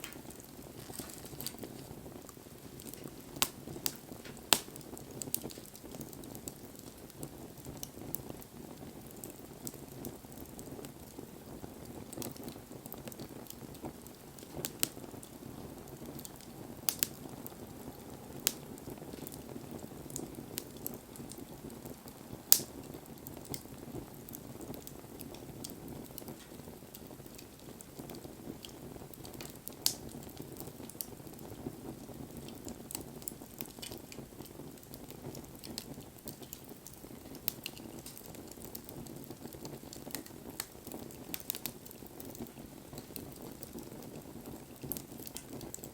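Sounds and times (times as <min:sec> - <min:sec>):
burning wood crackling: 0:00.0 - 0:45.9
fire flames burning: 0:00.0 - 0:45.9.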